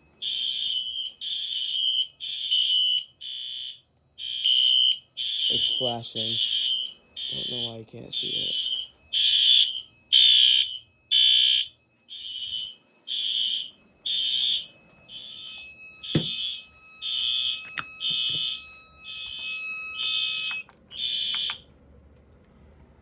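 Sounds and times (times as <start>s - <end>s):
fire alarm pulses: 0.0s - 21.7s.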